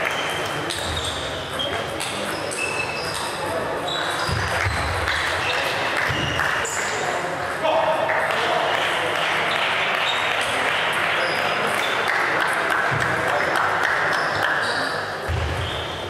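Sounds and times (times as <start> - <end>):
hubbub of voices: 0.0 - 16.0.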